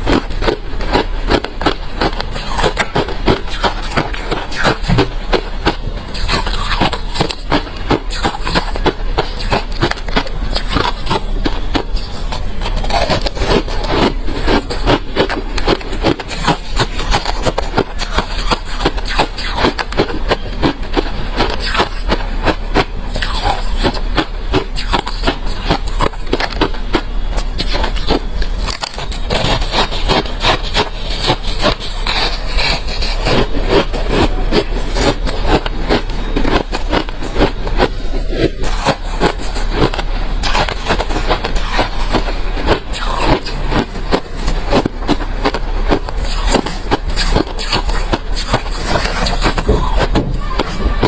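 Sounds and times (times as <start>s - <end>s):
ice being chewed crunching: 0.0s - 51.0s.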